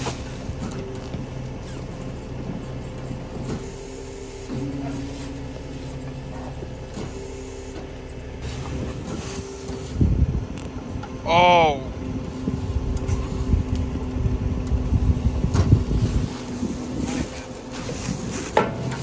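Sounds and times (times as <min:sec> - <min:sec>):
truck engine running: 0:00.0 - 0:19.0
whining tones: 0:00.5 - 0:17.6.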